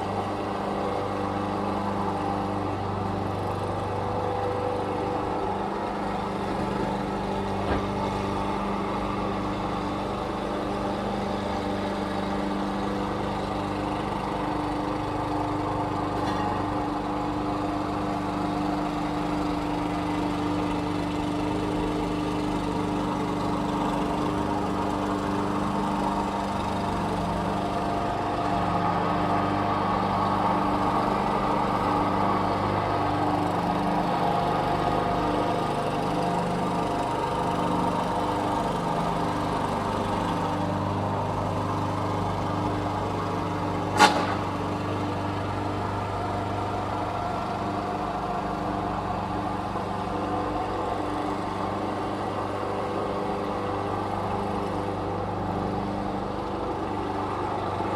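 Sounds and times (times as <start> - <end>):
lawn mower running: 0.0 - 57.9.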